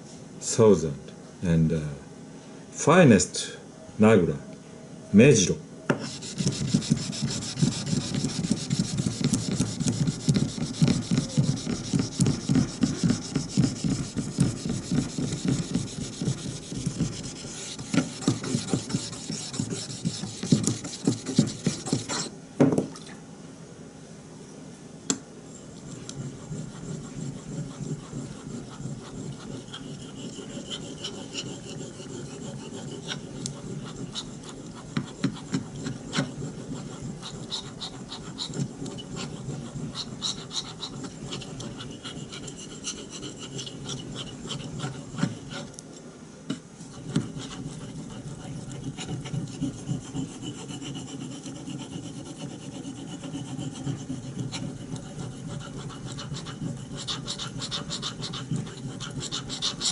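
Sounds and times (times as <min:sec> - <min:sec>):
knife rubbing on whetstone: 0:06.0 - 0:22.3, 0:25.8 - 0:45.8, 0:46.8 - 0:59.9.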